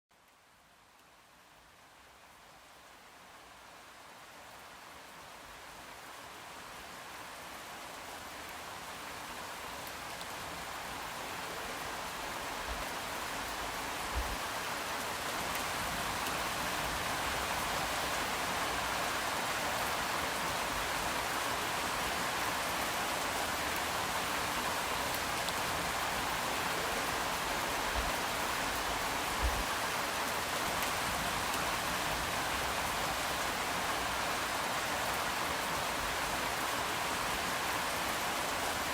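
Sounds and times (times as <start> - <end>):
steady rain falling: 0.1 - 38.9.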